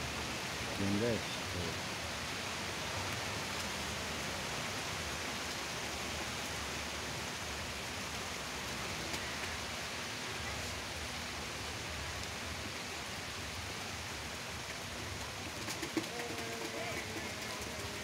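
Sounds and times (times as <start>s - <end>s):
rain falling on water: 0.0s - 18.0s.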